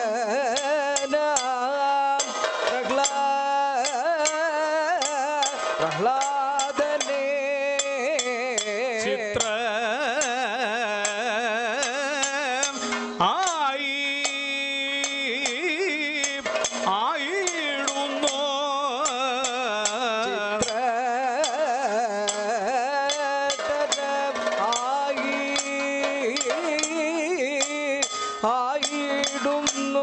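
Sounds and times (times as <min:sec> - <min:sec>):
hand cymbals struck: 0:00.0 - 0:30.0
person singing ornamented melody: 0:00.0 - 0:30.0.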